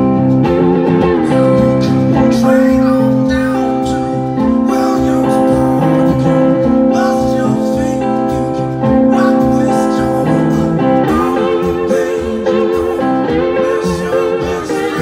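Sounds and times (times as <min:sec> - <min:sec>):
electric guitars: 0:00.0 - 0:15.0
horns and keys chords: 0:00.0 - 0:15.0
man singing: 0:01.0 - 0:15.0.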